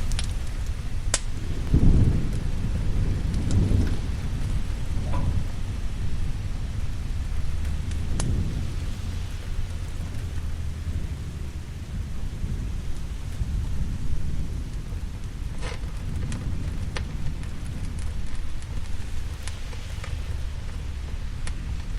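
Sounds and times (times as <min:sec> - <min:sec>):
fire crackling pops: 0:00.0 - 0:21.9
low rumble of thunder: 0:00.0 - 0:21.9
steady rain: 0:00.0 - 0:21.9.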